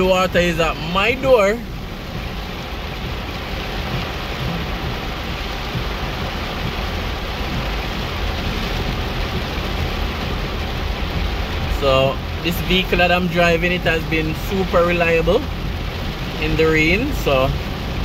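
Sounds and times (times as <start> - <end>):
car driving rumble: 0.0 - 18.0
heavy rain on car roof: 0.0 - 18.0.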